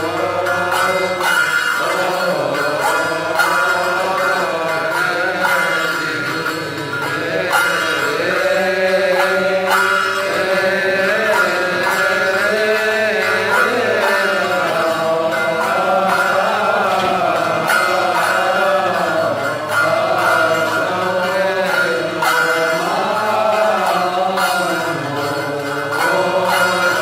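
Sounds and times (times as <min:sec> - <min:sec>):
person chanting a hymn: 0:00.0 - 0:27.0.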